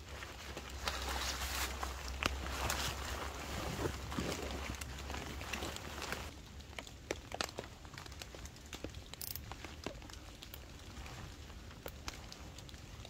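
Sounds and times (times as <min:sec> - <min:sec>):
tarp rustling and crinkling: 0:00.0 - 0:13.0.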